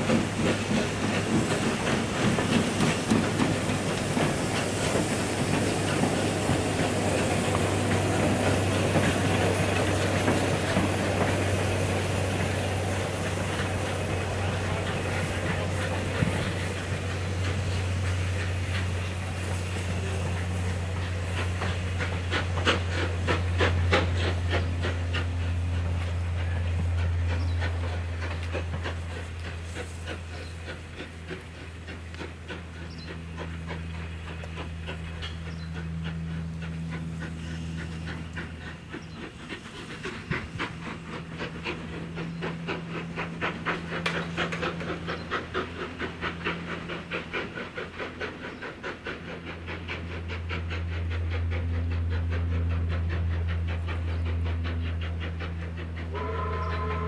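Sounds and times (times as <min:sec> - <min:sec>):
hissing steam: 0:00.0 - 0:57.0
locomotive exhaust beats: 0:00.0 - 0:57.0.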